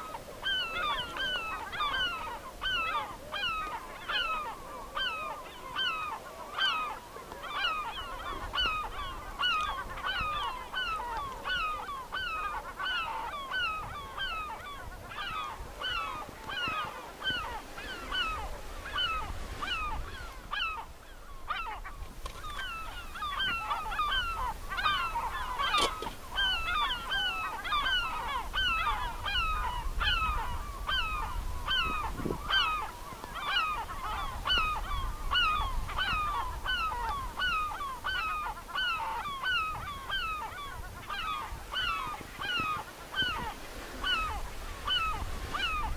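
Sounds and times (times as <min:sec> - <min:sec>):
flock of ducks calling: 0:00.0 - 0:45.9.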